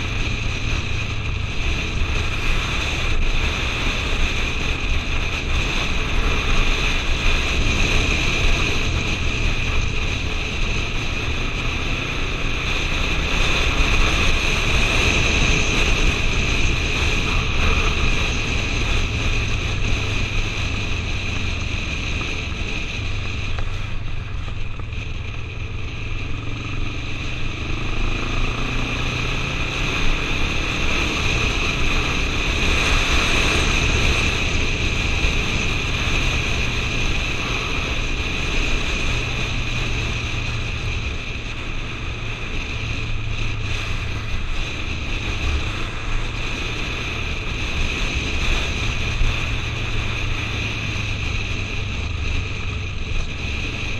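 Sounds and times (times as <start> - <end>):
motorcycle engine cruising: 0.0 - 53.9
wind rush on helmet: 0.0 - 53.9.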